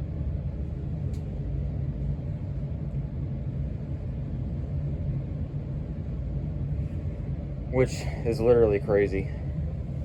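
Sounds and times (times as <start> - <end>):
ceiling fan low rumble: 0.0 - 10.0.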